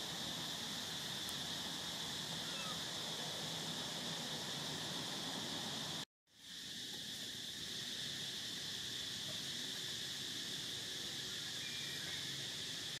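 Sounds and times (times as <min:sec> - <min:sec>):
faint open-air background noise: 0:00.0 - 0:13.0
insects droning: 0:00.0 - 0:13.0.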